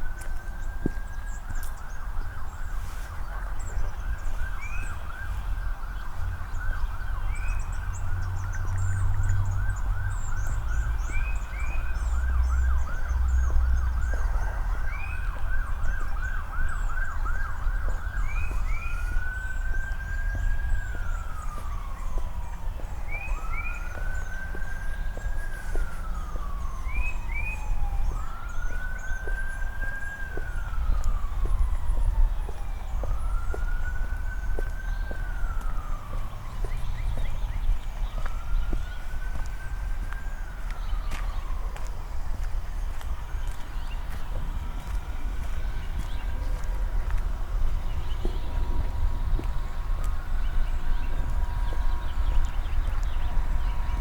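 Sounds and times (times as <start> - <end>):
emergency vehicle siren: 0.0 - 54.0
birds chirping: 0.2 - 54.0.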